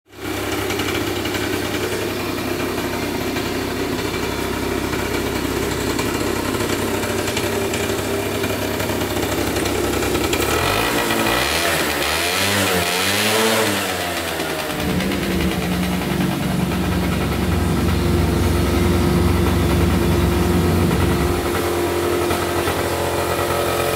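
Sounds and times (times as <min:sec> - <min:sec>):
scooter engine idling and revving: 0:00.1 - 0:23.9.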